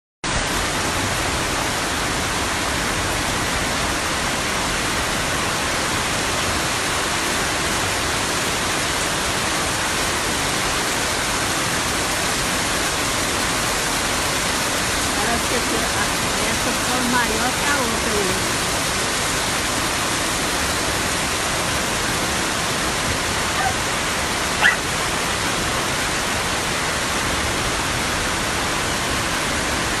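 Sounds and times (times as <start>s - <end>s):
pouring rain: 0.2s - 30.0s
running water: 0.3s - 30.0s.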